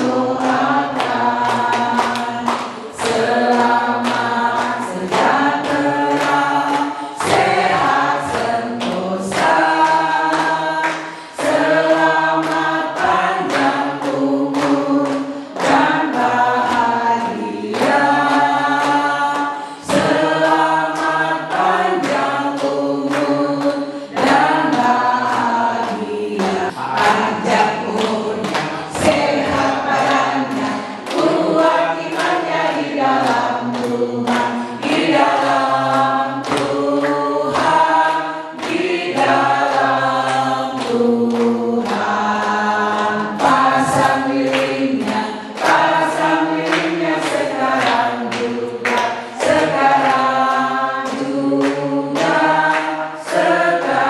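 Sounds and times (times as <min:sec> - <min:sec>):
group singing: 0:00.0 - 0:54.0
people clapping in time: 0:00.0 - 0:54.0.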